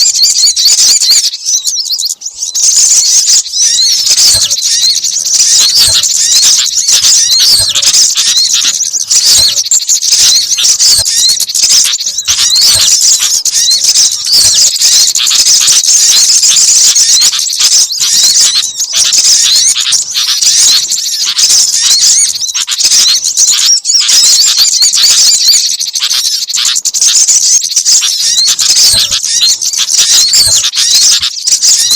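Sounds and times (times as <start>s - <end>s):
songbirds chirping and twittering: 0.0s - 31.9s.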